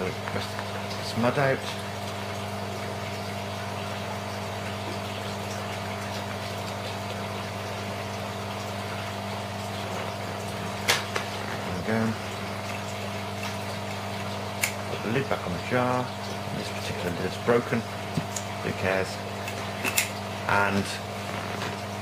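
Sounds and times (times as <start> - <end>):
steady mechanical motor hum: 0.0 - 22.0.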